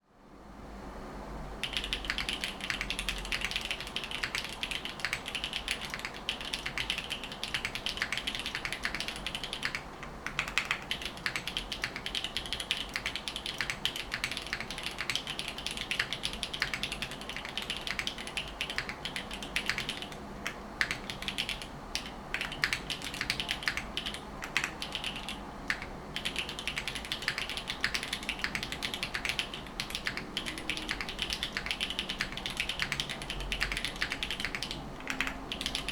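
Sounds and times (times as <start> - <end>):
fast typing on mechanical keyboard: 1.6 - 35.9.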